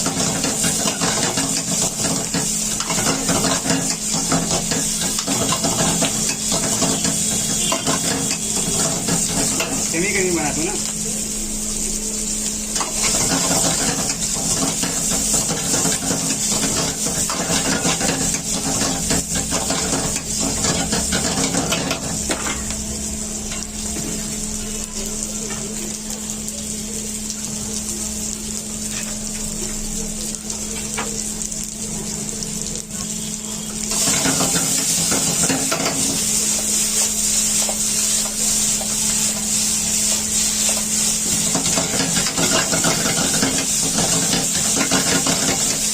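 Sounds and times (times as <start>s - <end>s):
chicken sizzling in oil: 0.0s - 45.9s.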